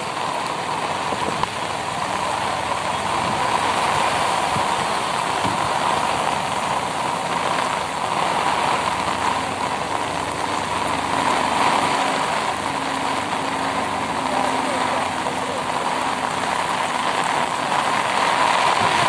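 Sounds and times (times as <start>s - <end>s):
heavy rain on road: 0.0s - 19.0s
low engine hum: 0.0s - 19.0s.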